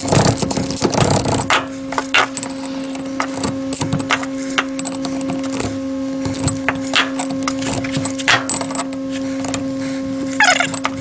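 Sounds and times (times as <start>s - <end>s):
metal clinks and scrapes: 0.0s - 9.5s
steady hum: 0.0s - 11.0s.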